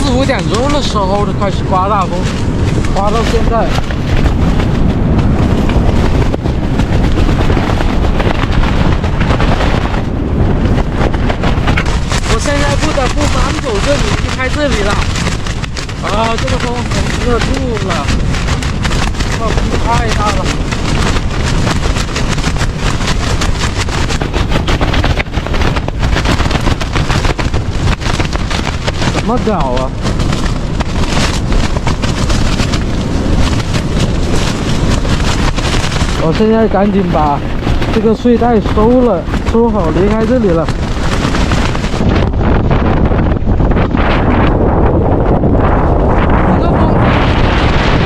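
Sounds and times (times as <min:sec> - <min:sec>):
strong wind buffeting microphone: 0:00.0 - 0:48.0.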